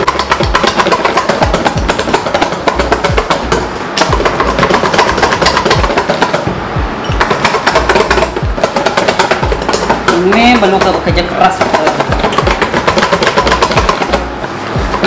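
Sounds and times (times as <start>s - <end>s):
utensil beating mixture in bowl: 0.0s - 6.5s, 7.1s - 15.0s
music with thumping beat: 0.0s - 15.0s.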